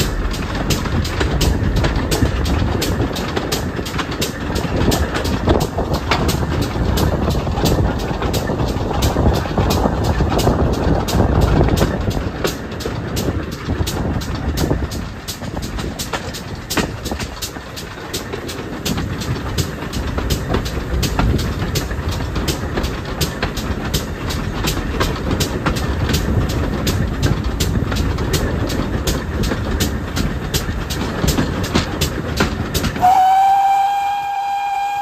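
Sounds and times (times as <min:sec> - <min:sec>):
regular clicking of train: 0:00.0 - 0:35.0
train rumbling: 0:00.0 - 0:35.0.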